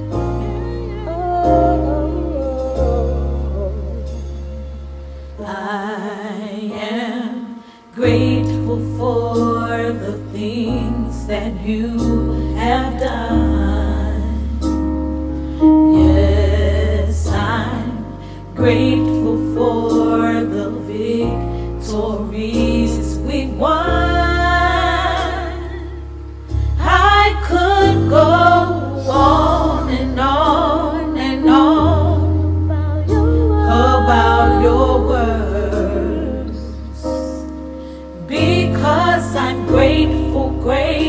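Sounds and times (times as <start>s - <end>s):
women singing harmonies: 0.0s - 4.7s, 5.3s - 41.0s
low bass notes: 0.0s - 5.4s, 8.2s - 41.0s.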